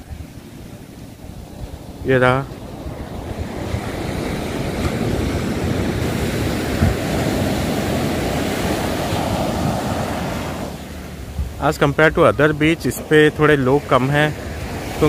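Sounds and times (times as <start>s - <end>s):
surf waves breaking on a beach: 0.0s - 15.0s.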